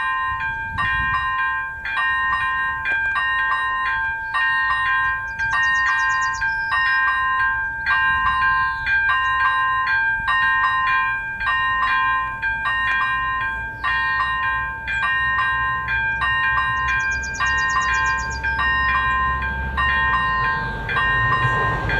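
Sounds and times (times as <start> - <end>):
level crossing warning bell: 0.0 - 21.9.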